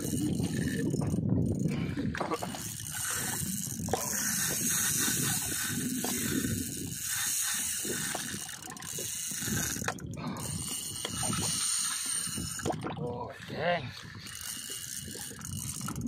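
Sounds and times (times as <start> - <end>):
fishing reel ratchet clicking: 0.0 - 12.8, 14.1 - 16.0.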